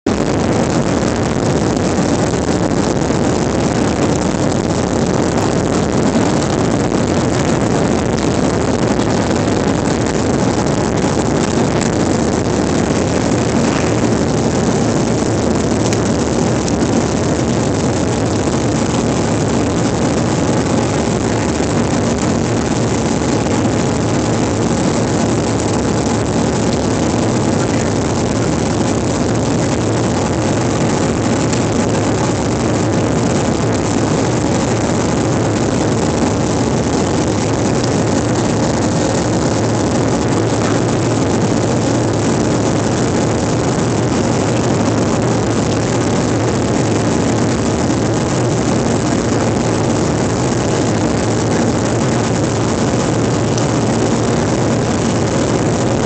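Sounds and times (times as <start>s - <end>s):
faint engine tones: 0.1s - 56.0s
jet engines loud rushing: 0.1s - 56.0s.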